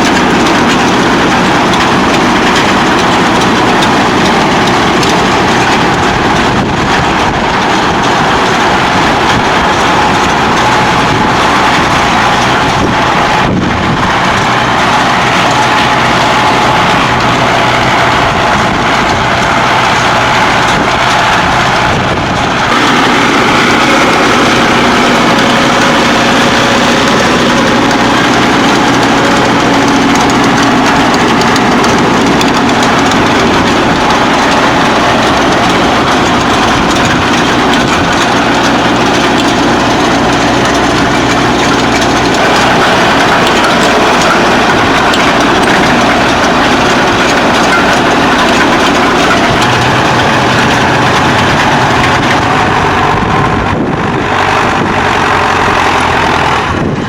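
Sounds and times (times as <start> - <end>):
baler machinery noise: 0.0 - 57.0
tractor engine hum: 0.0 - 57.0.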